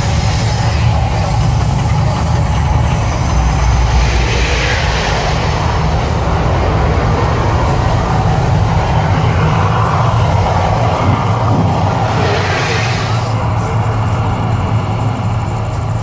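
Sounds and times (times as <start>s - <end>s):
gas fire rushing: 0.0s - 15.3s
deep rumble: 0.0s - 16.0s.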